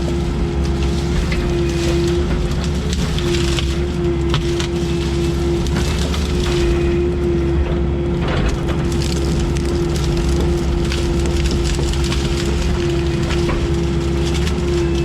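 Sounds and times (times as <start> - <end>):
branches cracking and snapping: 0.0 - 15.0
diesel machinery with hydraulic whine: 0.0 - 15.0.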